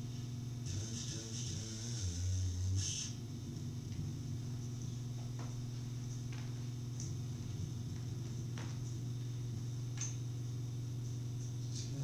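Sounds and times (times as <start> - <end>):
low electronic hum: 0.0 - 12.0.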